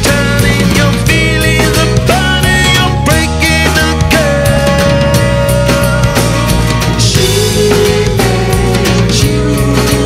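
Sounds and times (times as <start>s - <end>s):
rock music with guitar: 0.0s - 10.0s.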